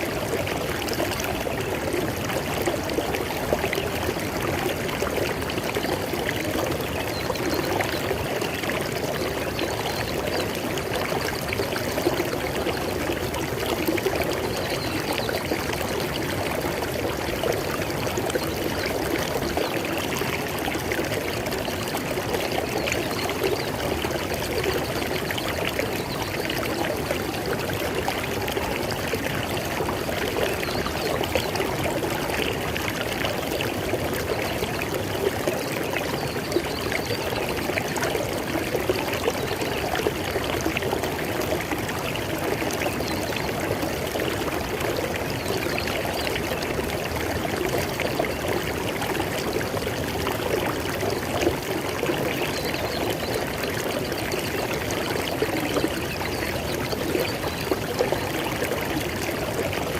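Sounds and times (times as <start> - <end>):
river water flowing and splashing: 0.0 - 59.9.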